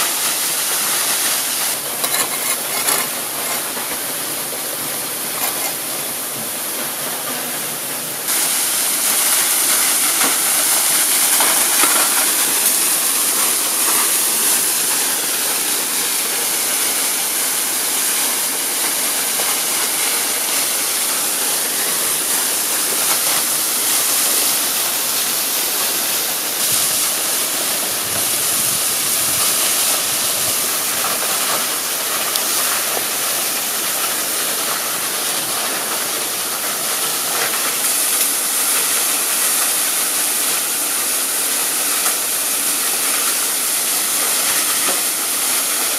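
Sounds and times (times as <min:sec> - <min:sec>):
running water rushing: 0:00.0 - 0:45.9.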